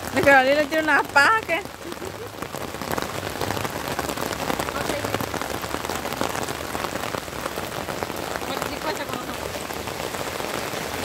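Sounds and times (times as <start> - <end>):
rain falling: 0.0 - 11.0
raindrops ticking nearby: 0.0 - 11.0.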